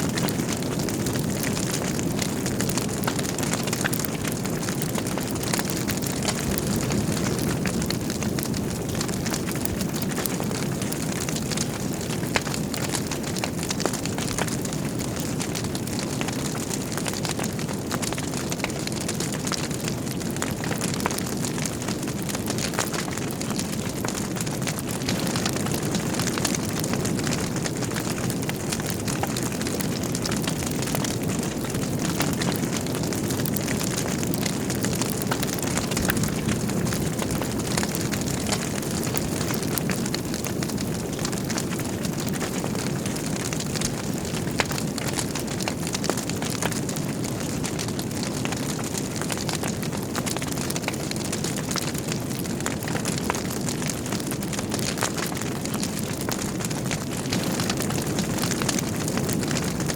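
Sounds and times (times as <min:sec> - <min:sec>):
fire crackling and popping: 0:00.0 - 0:59.9
fire flames rushing: 0:00.0 - 0:59.9.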